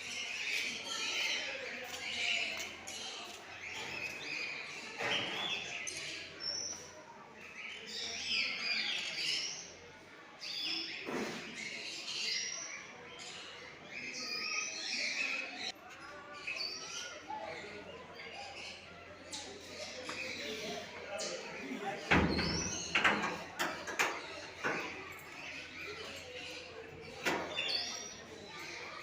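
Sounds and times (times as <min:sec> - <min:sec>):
indistinct human voices: 0:00.0 - 0:29.0
small birds chirping: 0:00.0 - 0:29.0.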